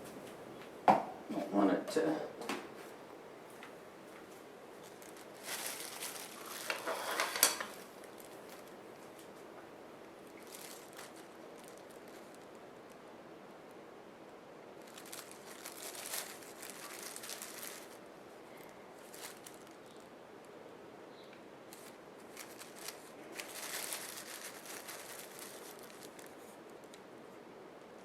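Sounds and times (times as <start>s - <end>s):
faint crinkling and rustling: 1.9s - 13.0s, 14.8s - 20.6s, 21.2s - 27.1s.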